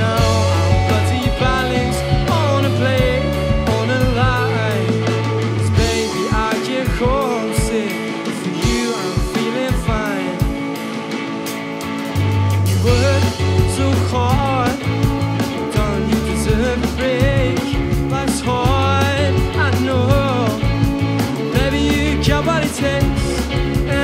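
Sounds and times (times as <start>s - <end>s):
person singing: 0.0s - 11.0s, 12.7s - 24.0s
bass guitar: 0.0s - 24.0s
drums: 0.0s - 24.0s
electric guitars: 0.0s - 24.0s.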